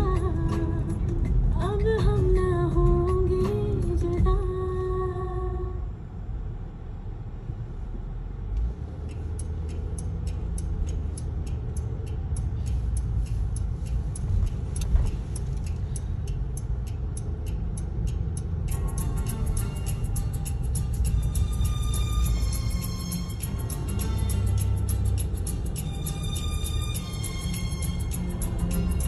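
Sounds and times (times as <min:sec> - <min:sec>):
turn signal ticking: 0:00.0 - 0:05.8, 0:06.6 - 0:29.0
road and engine rumble: 0:00.0 - 0:29.0.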